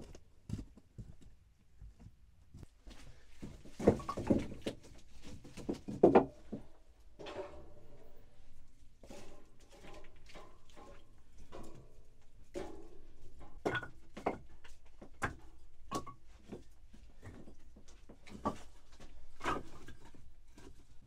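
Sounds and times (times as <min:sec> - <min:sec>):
knocks and clatters of objects: 0:00.0 - 0:21.0.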